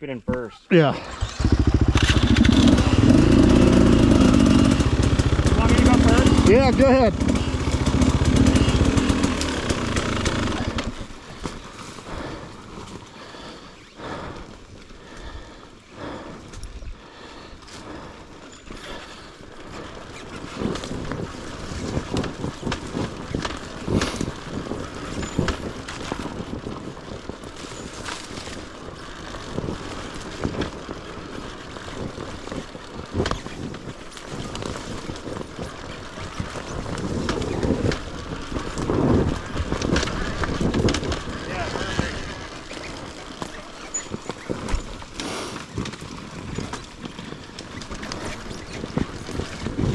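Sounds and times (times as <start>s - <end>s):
tyres rumbling over dirt: 0.7s - 49.9s.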